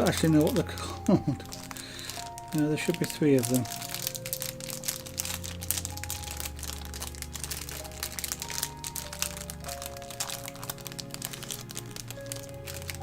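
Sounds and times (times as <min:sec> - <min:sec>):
plastic bag crinkling: 0:00.0 - 0:13.0
soft background music: 0:00.0 - 0:13.0.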